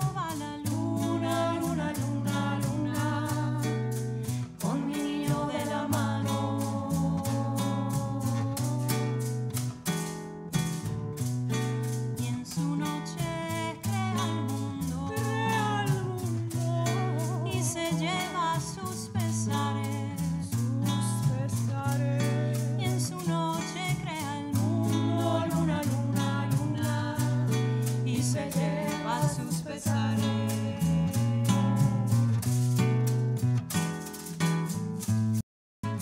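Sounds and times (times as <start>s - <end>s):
person singing: 0.0s - 9.4s, 12.2s - 32.3s
acoustic guitar: 0.0s - 36.0s
bass line: 0.0s - 36.0s.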